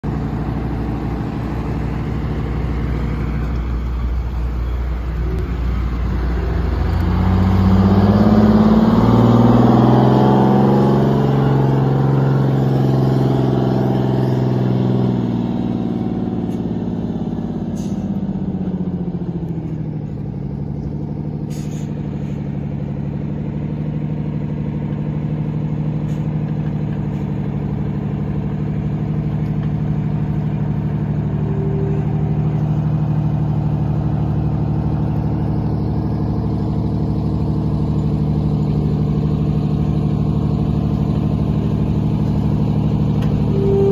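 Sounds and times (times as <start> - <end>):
bus diesel engine: 0.0 - 43.9.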